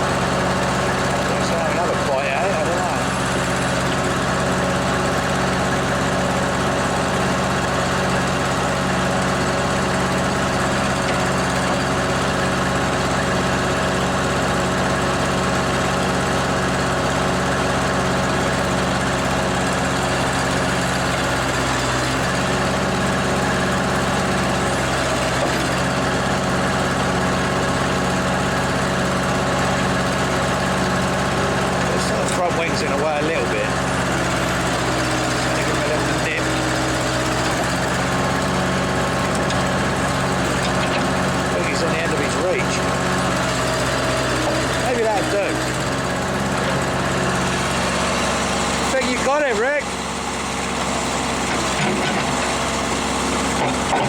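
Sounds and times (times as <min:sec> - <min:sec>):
old tractor engine running: 0:00.0 - 0:54.0.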